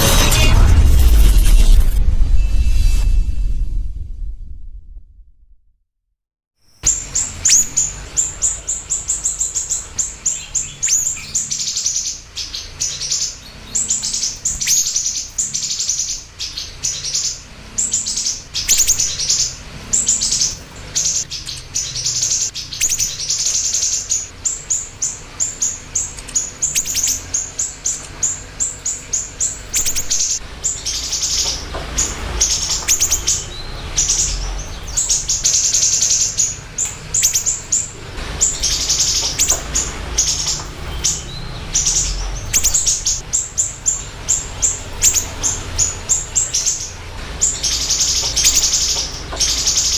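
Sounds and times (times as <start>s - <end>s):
bird singing rapid chirps and trills: 6.8s - 49.9s.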